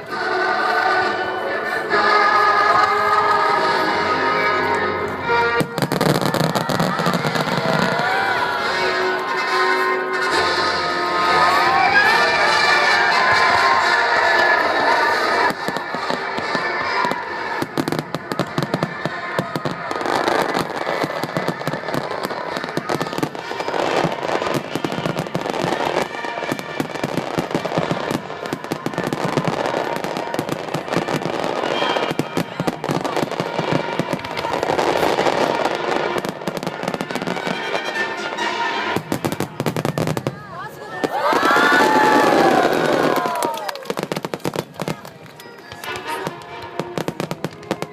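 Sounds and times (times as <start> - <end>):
music playing: 0.0 - 40.1
fireworks bursting and crackling: 0.0 - 47.9.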